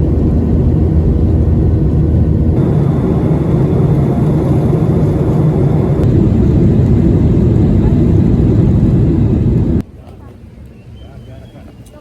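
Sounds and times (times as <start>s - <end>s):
aircraft engines rumbling: 0.0s - 12.0s.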